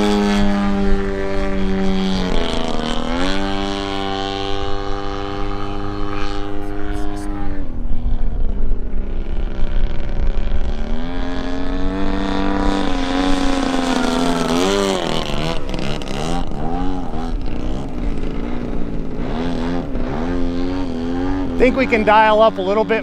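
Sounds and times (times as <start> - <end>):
model plane engine at high power: 0.0 - 23.0.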